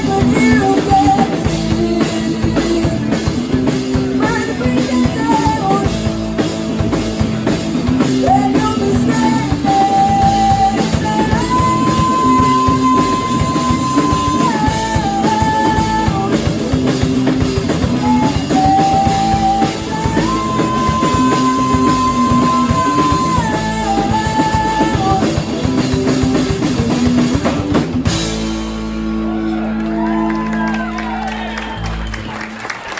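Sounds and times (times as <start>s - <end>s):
rock band playing: 0.0s - 32.9s.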